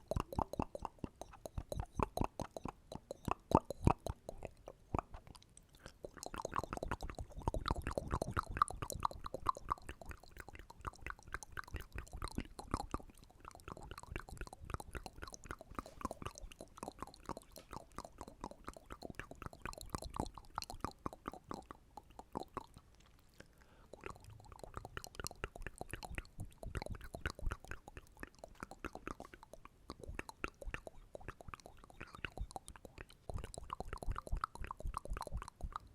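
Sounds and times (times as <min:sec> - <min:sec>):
wet mouth clicks and smacking: 0:00.0 - 0:35.9.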